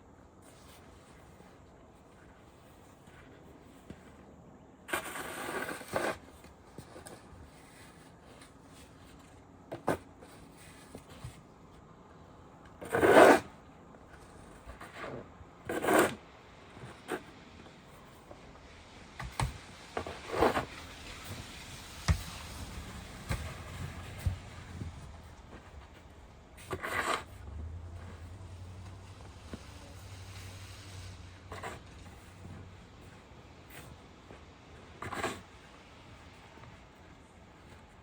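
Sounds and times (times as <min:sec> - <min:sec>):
low steady background noise: 0:00.0 - 0:38.0
scraping and rubbing noises: 0:04.9 - 0:11.5, 0:12.8 - 0:38.0.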